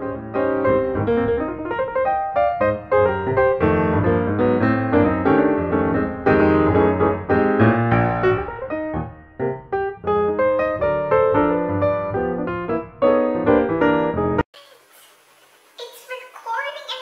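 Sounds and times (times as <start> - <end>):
piano playing: 0.0 - 14.5.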